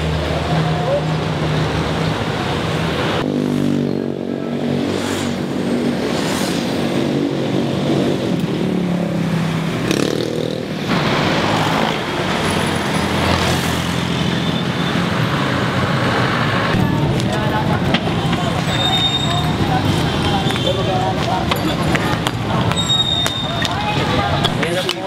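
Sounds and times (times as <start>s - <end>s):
vehicles passing close by: 0.0s - 25.0s.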